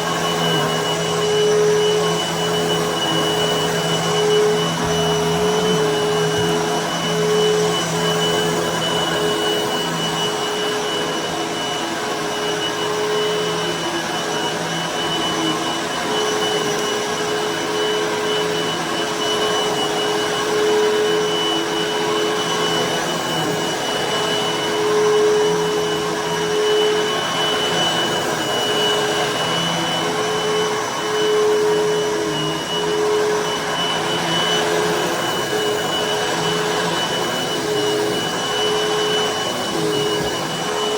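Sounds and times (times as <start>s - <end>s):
vacuum cleaner running over carpet: 0.0s - 40.9s.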